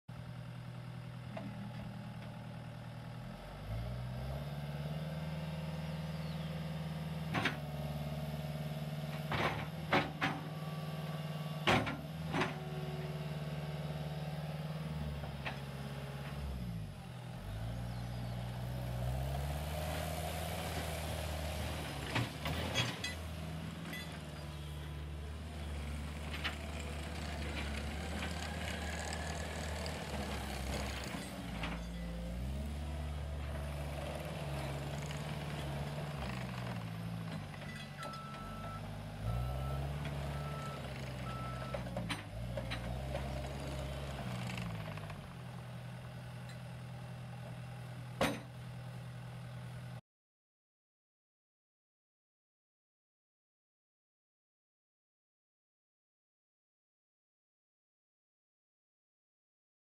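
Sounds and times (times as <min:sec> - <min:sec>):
track loader diesel engine: 0:00.1 - 0:50.0.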